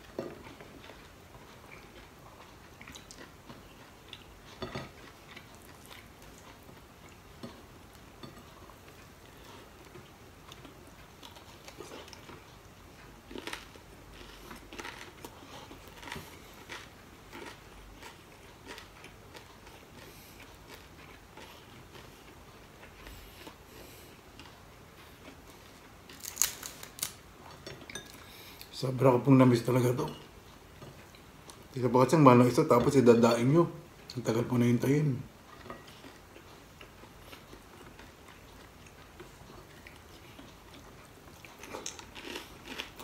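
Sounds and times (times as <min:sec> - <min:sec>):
man chewing crunchy food: 0:00.0 - 0:28.8, 0:29.6 - 0:33.0, 0:34.8 - 0:43.0.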